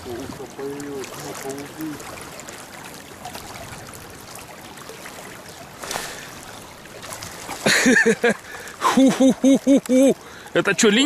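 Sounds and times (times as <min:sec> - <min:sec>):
river flowing: 0:00.0 - 0:11.0.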